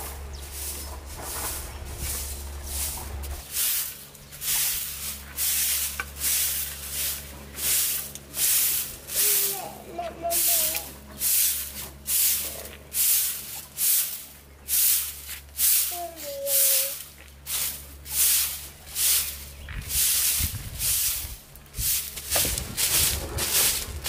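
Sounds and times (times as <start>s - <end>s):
broom sweeping concrete: 0.0s - 24.0s.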